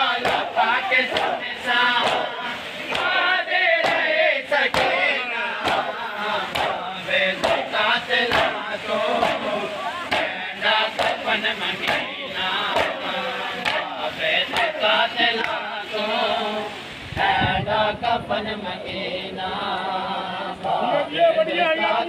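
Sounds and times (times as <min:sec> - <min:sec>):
crowd of men chanting: 0:00.0 - 0:22.0.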